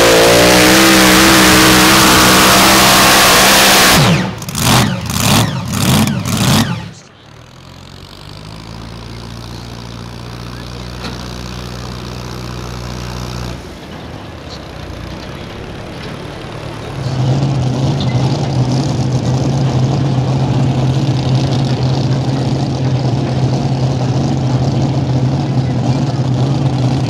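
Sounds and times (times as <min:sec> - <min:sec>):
loud tractor engine running: 0:00.0 - 0:27.0
steady engine hum: 0:00.0 - 0:27.0.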